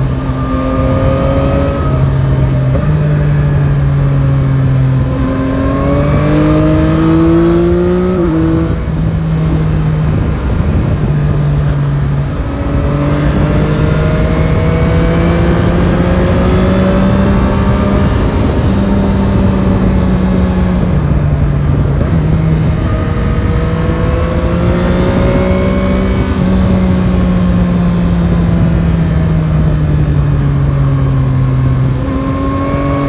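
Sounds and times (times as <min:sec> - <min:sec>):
motorcycle engine accelerating: 0:00.0 - 0:33.0
wind rush: 0:00.0 - 0:33.0.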